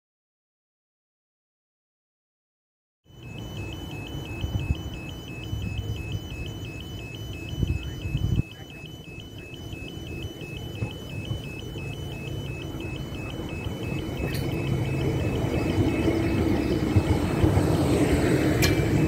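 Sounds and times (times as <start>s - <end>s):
two-tone crossing alarm: 3.1s - 19.0s
low train rumble: 3.2s - 19.0s.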